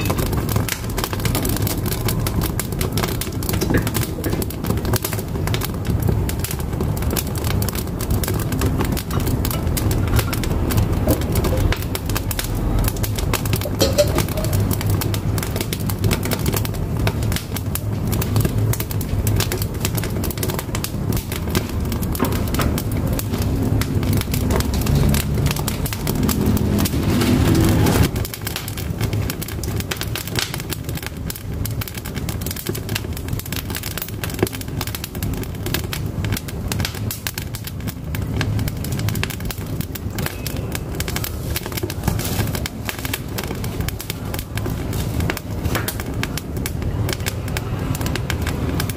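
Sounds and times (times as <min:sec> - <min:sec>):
firewood crackling in a stove: 0:00.0 - 0:48.9.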